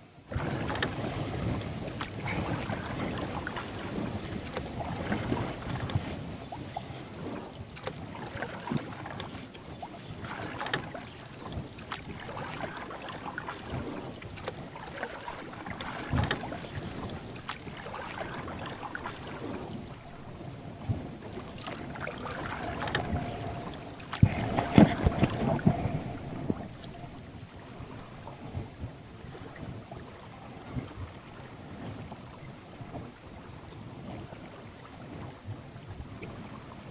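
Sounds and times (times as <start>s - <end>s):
paddle splashing water: 0.0s - 36.9s
wind on microphone: 0.3s - 14.8s, 15.4s - 36.9s.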